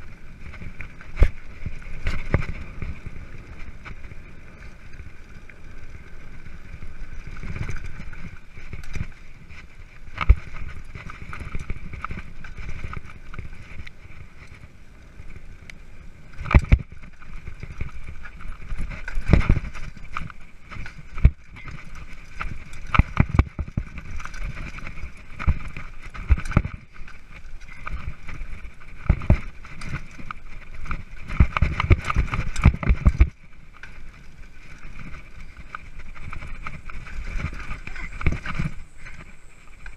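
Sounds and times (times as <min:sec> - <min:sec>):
bike knocks and rattles: 0:00.0 - 0:39.9
bike tyres rumbling on dirt trail: 0:00.0 - 0:39.9.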